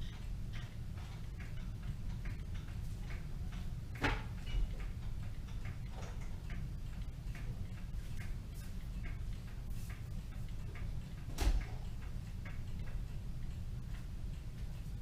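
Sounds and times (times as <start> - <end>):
clock ticking: 0.0 - 15.0
steady low hum: 0.0 - 15.0.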